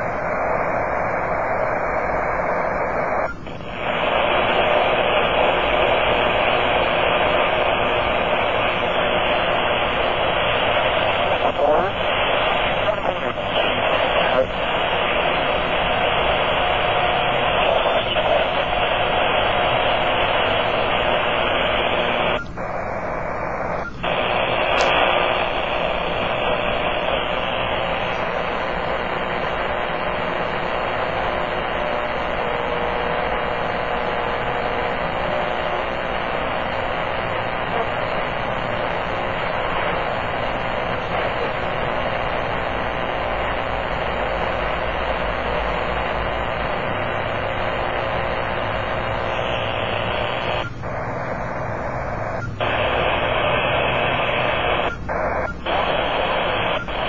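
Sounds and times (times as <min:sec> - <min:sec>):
radio static noise: 0:00.0 - 0:57.0.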